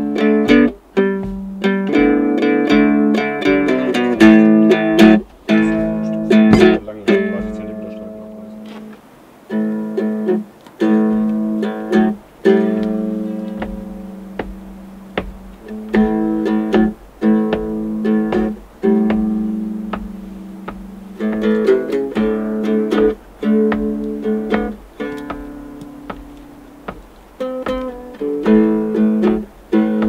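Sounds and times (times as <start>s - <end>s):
acoustic guitar strummed: 0.0s - 30.0s.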